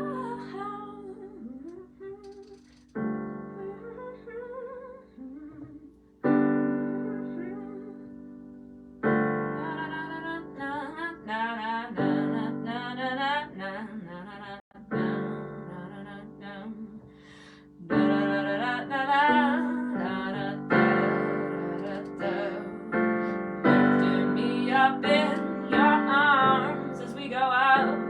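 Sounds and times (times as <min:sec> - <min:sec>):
electric piano chords: 0:00.0 - 0:28.0
wordless sung melody: 0:00.0 - 0:28.0.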